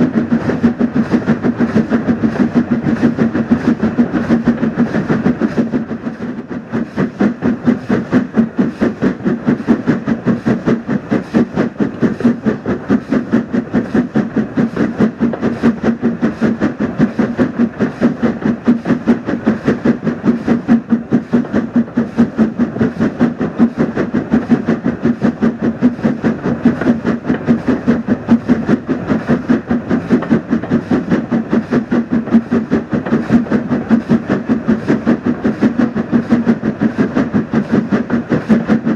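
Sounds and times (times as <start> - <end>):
steam train running: 0.0 - 38.9.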